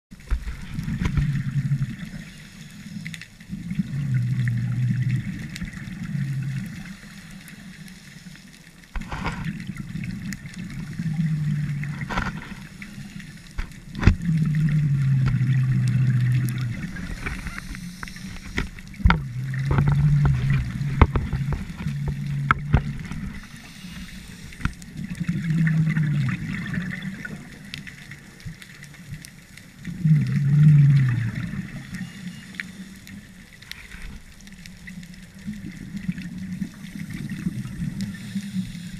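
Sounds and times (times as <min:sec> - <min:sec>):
bubbles gurgling underwater: 0:00.1 - 0:02.4, 0:03.4 - 0:07.8, 0:08.9 - 0:23.5, 0:24.6 - 0:32.3, 0:33.8 - 0:38.4.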